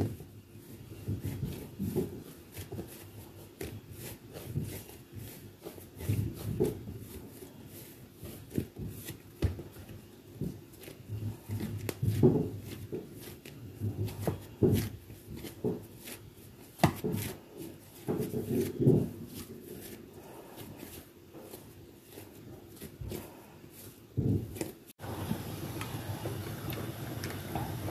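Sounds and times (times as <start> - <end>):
hands kneading dough: 0.0 - 27.9.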